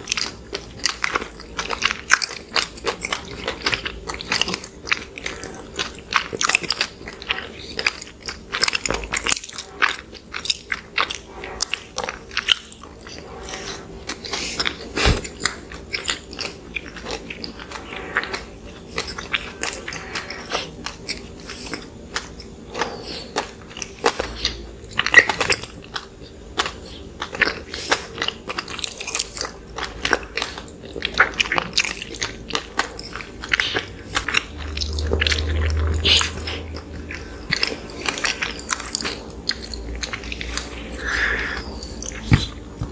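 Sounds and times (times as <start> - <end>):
chewing soft food: 0.0 - 42.9.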